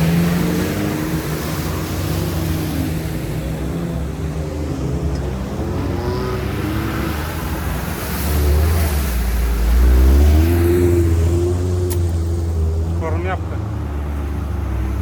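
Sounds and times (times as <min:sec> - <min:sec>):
off-road car engine revving: 0:00.0 - 0:15.0.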